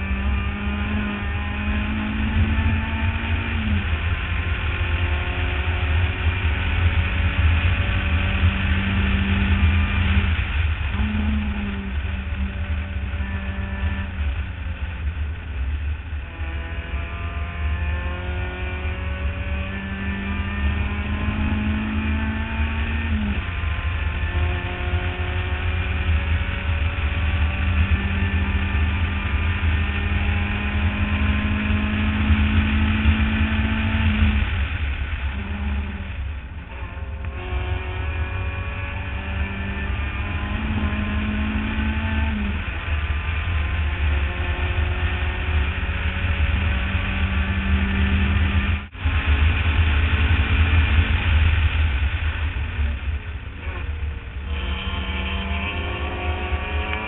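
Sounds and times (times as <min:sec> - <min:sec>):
race car engine revving: 0:00.0 - 0:57.0
wind rumble on microphone: 0:00.0 - 0:57.0.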